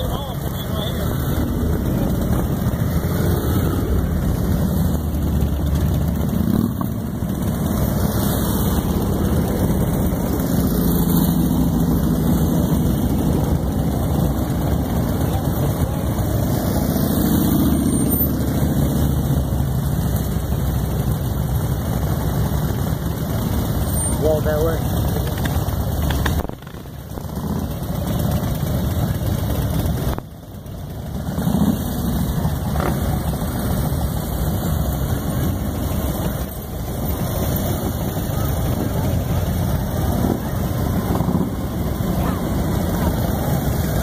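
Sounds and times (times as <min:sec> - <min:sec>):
motorcycle engines idling: 0:00.0 - 0:44.0.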